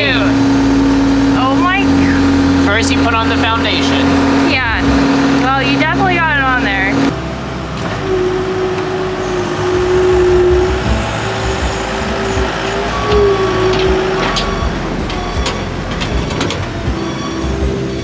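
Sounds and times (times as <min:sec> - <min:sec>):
diesel engine under load: 0:00.0 - 0:18.0
steady engine whine: 0:00.0 - 0:18.0.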